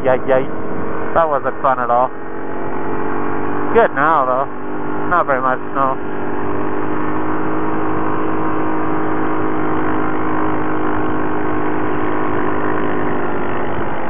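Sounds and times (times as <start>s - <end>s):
atv engine droning: 0.0s - 14.0s.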